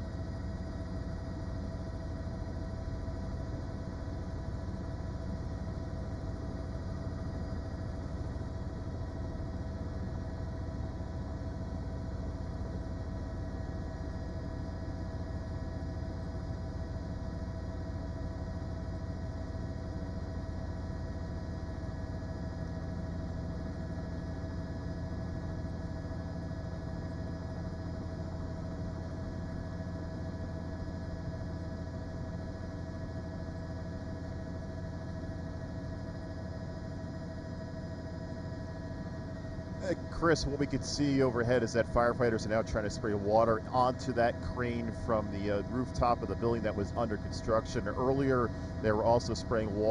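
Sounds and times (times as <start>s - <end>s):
helicopter cabin drone: 0.0s - 49.9s.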